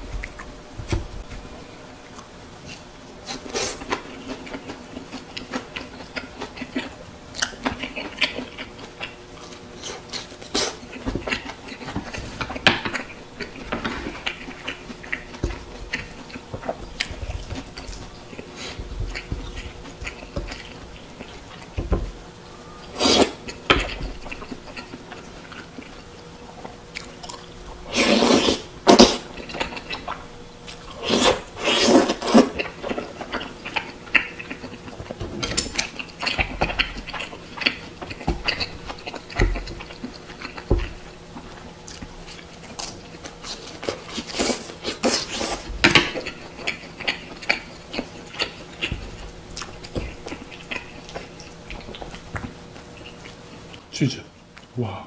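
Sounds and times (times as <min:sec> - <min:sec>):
chewing and wet mouth sounds: 0:01.2 - 0:21.8, 0:22.8 - 0:53.9.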